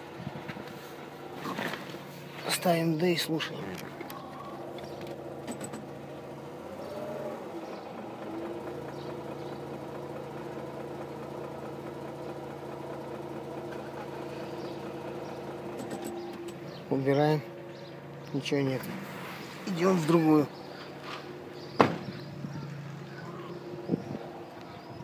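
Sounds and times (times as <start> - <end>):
rotary engine idling: 0.0 - 25.0.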